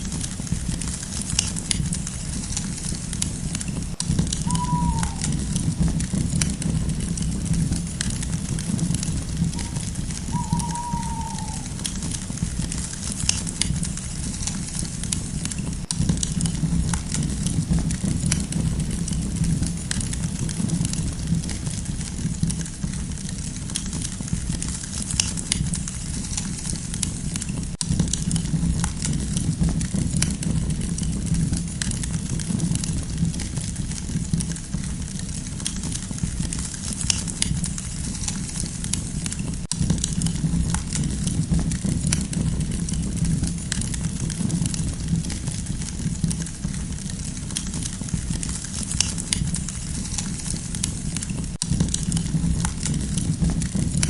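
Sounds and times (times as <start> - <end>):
campfire crackling and popping: 0.0 - 54.0
fire low rumble: 0.0 - 54.0.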